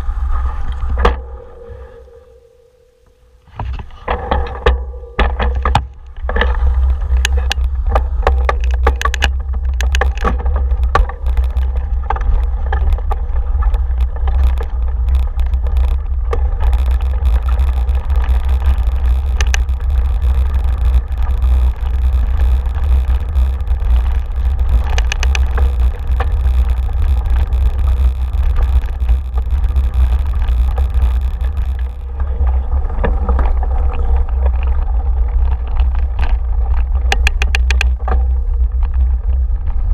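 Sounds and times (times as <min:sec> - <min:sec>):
bike knocks and rattles: 0:00.9 - 0:01.8, 0:03.5 - 0:39.9.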